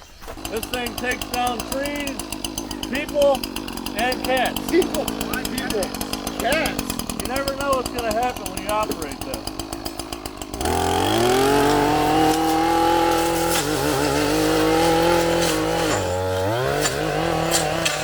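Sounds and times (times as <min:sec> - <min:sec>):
diesel engine revving under load: 0:00.2 - 0:18.0.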